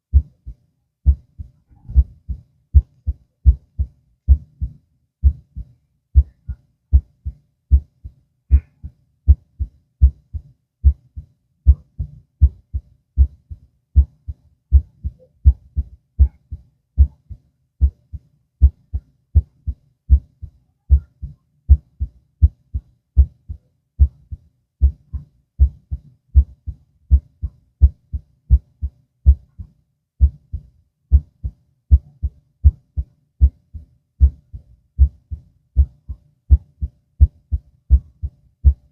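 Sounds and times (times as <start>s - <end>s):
heartbeat through stethoscope: 0.0s - 38.9s.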